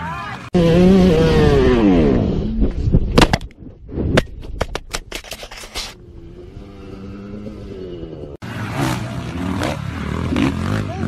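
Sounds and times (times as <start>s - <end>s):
dirt bike engine: 0.0s - 4.2s, 5.8s - 11.0s.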